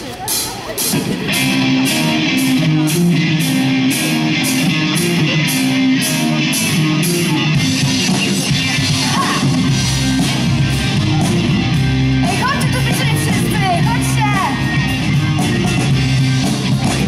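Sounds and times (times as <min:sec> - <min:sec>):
drum kit with cymbals: 0:00.0 - 0:17.0
electric guitars: 0:00.0 - 0:17.0.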